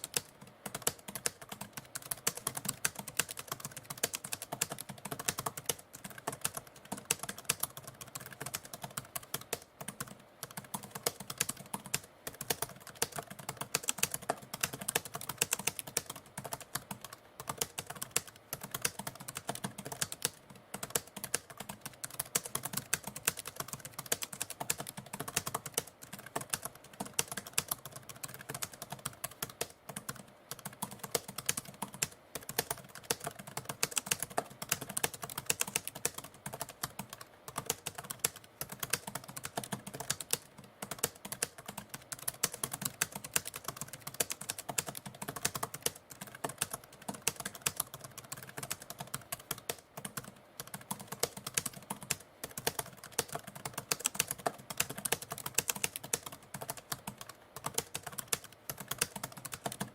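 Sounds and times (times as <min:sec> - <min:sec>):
typewriter typing: 0:00.0 - 0:59.9.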